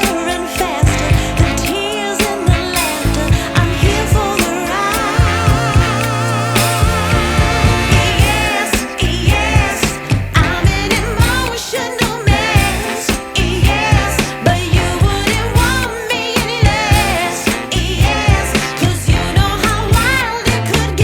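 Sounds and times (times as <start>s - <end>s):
pop music with singer: 0.0s - 21.0s.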